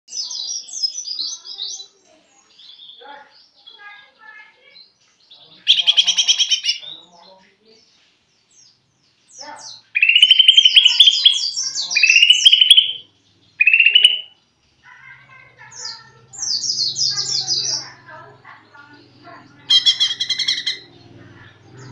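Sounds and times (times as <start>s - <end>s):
bird singing high chattering trills: 0.1s - 7.4s, 8.4s - 21.9s.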